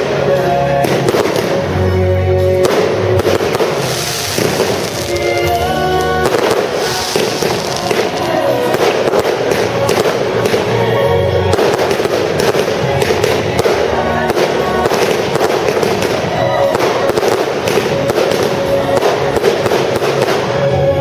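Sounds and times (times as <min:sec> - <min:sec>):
fireworks crackling and popping: 0:00.0 - 0:21.0
music playing: 0:00.0 - 0:21.0.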